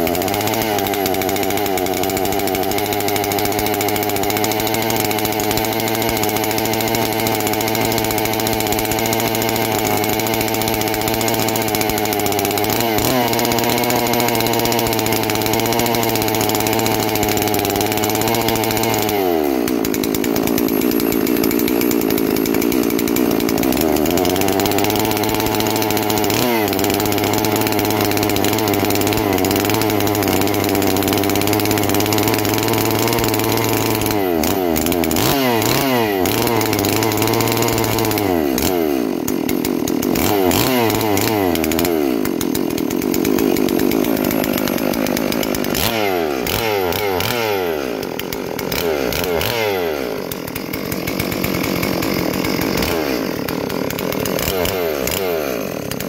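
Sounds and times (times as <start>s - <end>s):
chainsaw engine running: 0.0s - 56.0s.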